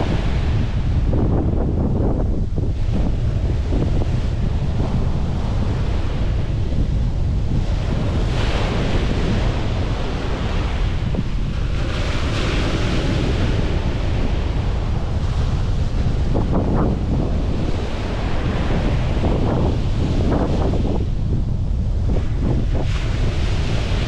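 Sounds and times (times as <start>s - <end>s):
ocean surf breaking: 0.0s - 24.0s
wind rumbling on microphone: 0.0s - 24.0s.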